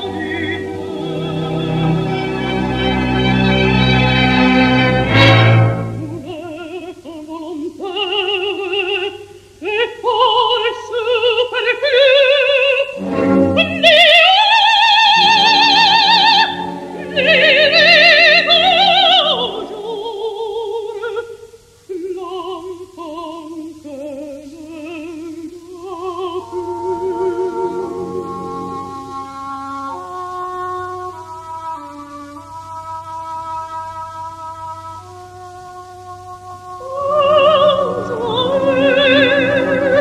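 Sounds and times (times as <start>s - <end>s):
quiet sustained accompaniment: 0.0s - 40.0s
soprano singing operatic aria: 0.0s - 40.0s.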